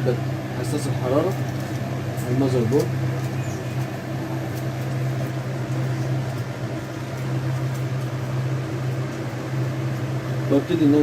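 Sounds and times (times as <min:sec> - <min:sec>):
rework station hum and fan: 0:00.0 - 0:11.0.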